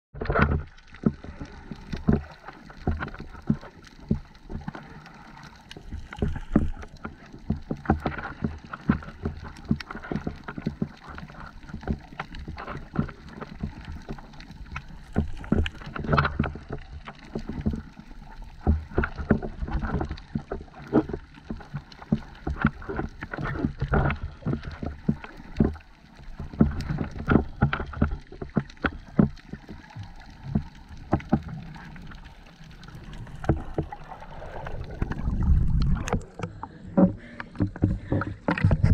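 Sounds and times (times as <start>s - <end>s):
underwater knocks and crackles: 0.1s - 38.9s
underwater rush of moving water: 0.2s - 38.9s.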